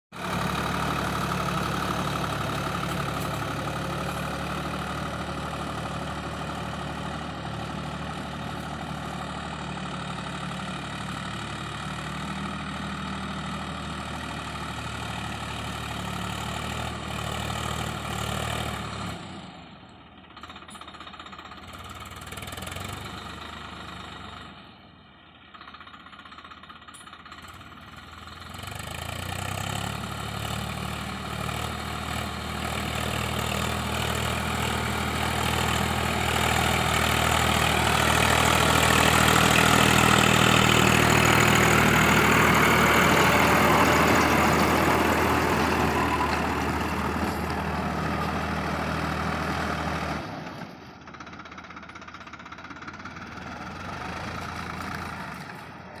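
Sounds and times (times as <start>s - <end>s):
tractor diesel engine running: 0.1s - 56.0s.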